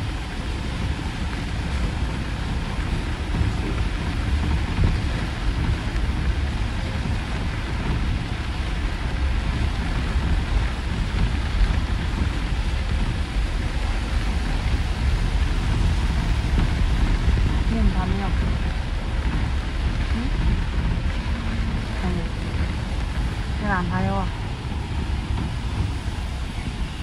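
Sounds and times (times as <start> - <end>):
bus engine rumble: 0.0 - 27.0
rain and tyres on wet road: 0.0 - 27.0.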